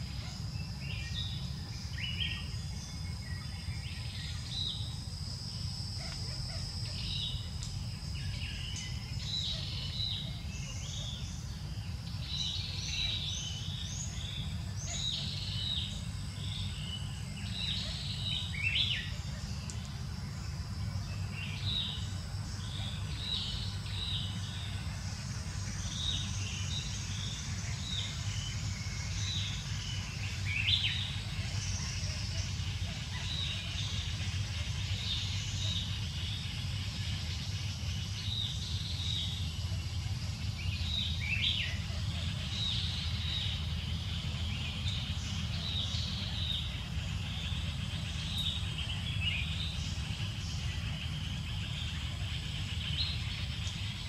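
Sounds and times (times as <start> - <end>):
forest birds chirping: 0.0 - 54.0
thin high insect whine: 0.0 - 54.0.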